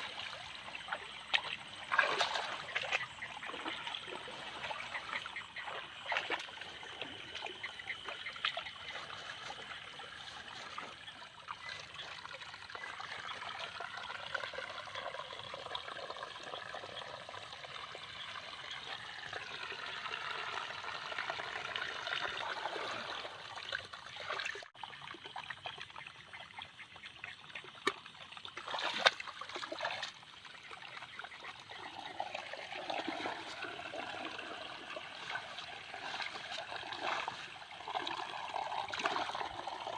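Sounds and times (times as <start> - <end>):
shallow water trickling: 0.0 - 39.9
water splashes: 0.0 - 39.9.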